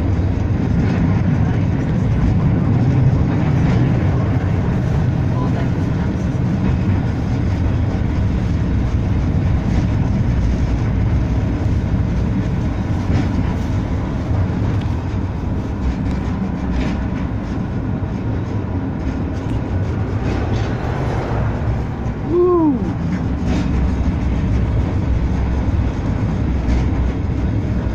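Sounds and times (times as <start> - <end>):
tram wheels rumbling: 0.0 - 27.9.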